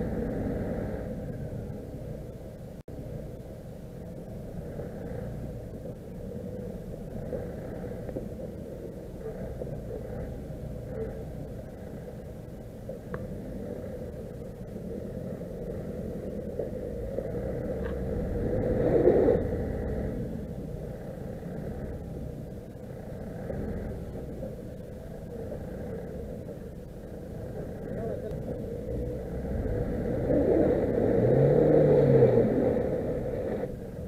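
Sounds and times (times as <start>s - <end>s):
vehicle engines running low: 0.0s - 34.0s.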